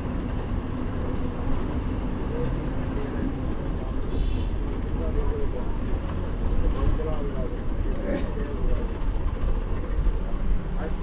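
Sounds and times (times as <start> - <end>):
bus engine hum: 0.0 - 11.0
faint passenger voices: 0.0 - 11.0
road rumble: 0.0 - 11.0.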